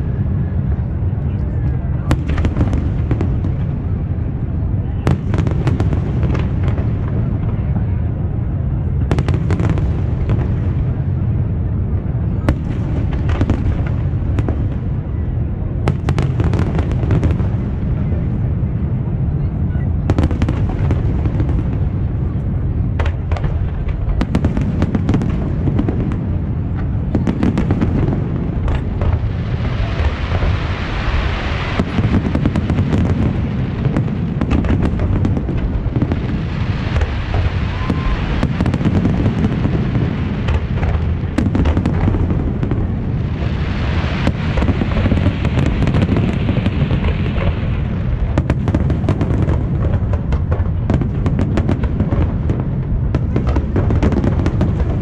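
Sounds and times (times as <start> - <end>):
firework crackling: 0.0 - 55.0
firework bursts booming: 1.9 - 55.0.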